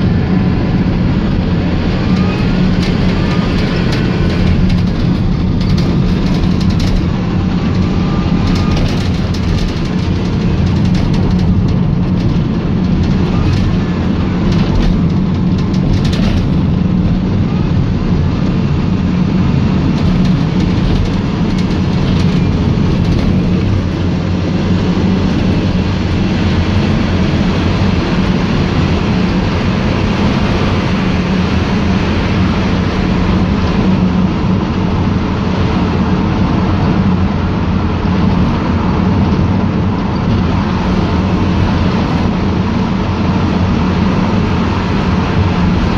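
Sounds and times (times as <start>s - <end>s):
minibus engine and road noise: 0.0s - 45.9s.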